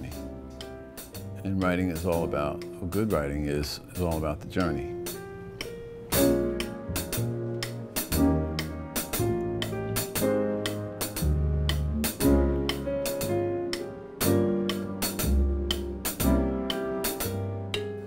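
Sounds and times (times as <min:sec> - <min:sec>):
double bass: 0:00.0 - 0:18.0
piano: 0:00.0 - 0:18.0.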